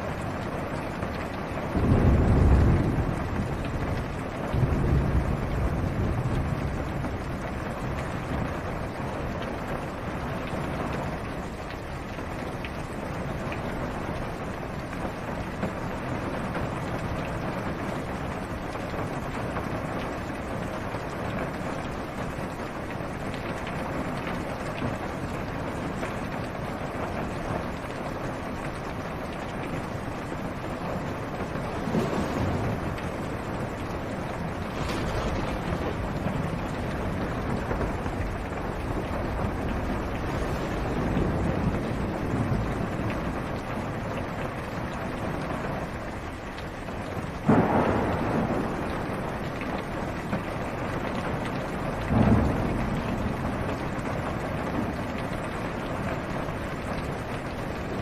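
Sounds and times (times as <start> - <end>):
rain on car roof: 0.0 - 58.0
raindrops ticking: 0.0 - 58.0.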